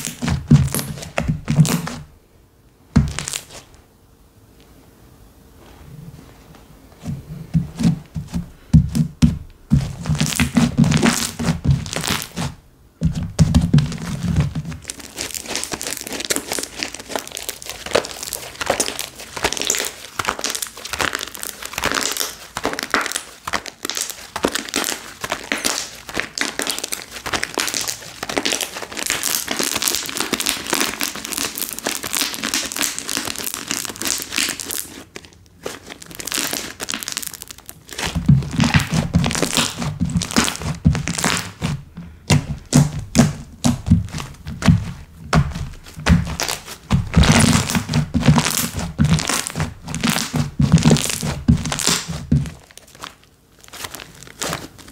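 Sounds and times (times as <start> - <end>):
slime crackling and popping: 0.0 - 2.0, 3.0 - 3.7, 7.8 - 54.9
slime squishing: 0.0 - 2.1, 7.0 - 54.9.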